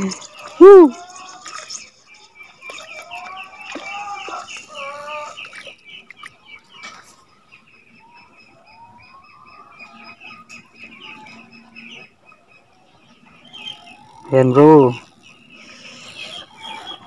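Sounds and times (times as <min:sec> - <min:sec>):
chickens clucking: 0:00.0 - 0:17.0
small bird chirping rapidly: 0:00.0 - 0:17.0.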